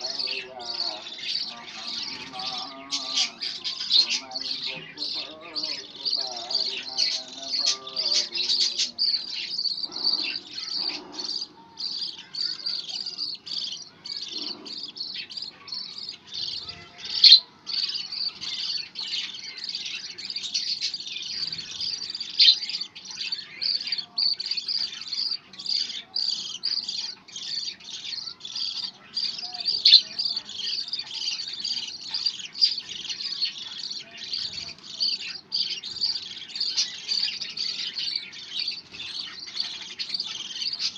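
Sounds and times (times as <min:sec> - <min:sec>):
budgerigar chirping: 0:00.0 - 0:40.9.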